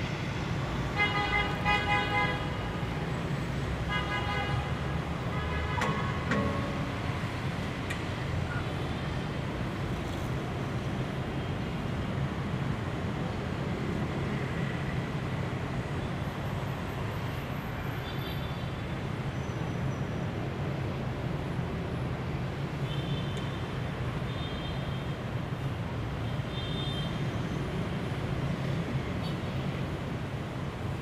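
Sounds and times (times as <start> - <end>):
city hum and traffic: 0.0 - 31.0.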